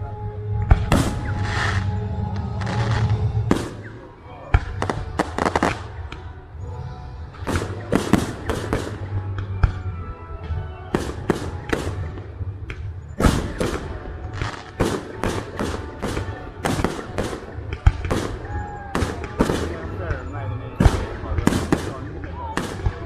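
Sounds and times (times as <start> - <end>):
fireworks bangs: 0.7 - 6.2, 7.4 - 9.9, 10.9 - 23.0.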